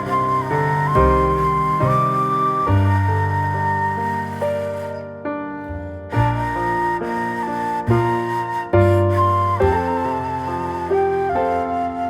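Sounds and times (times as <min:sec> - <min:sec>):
slow flute melody: 0:00.0 - 0:12.0
soft piano and bass chords: 0:00.0 - 0:12.0.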